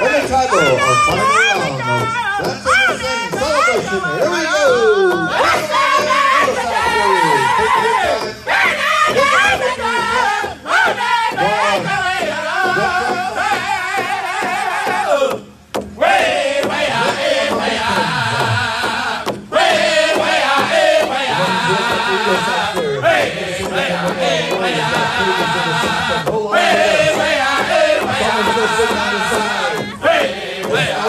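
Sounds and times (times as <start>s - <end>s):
group singing in high voices: 0.0s - 31.0s
large drum beating: 0.0s - 31.0s.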